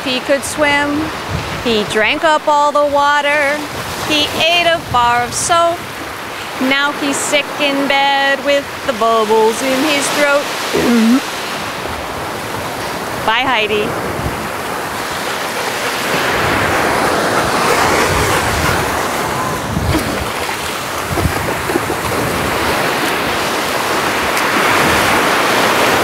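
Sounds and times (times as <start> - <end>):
small waves washing up a beach: 0.0 - 26.0.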